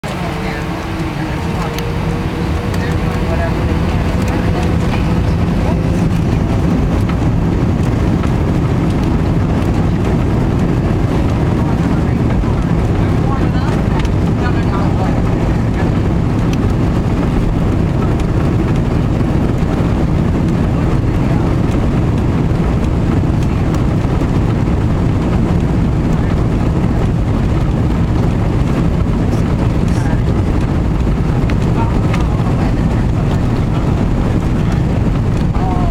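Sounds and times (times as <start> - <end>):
jet airliner engines rumbling: 0.0 - 35.9.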